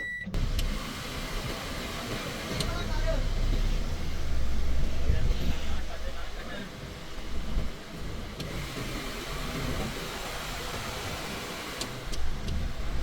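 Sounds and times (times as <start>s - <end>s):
car running: 0.0s - 13.0s.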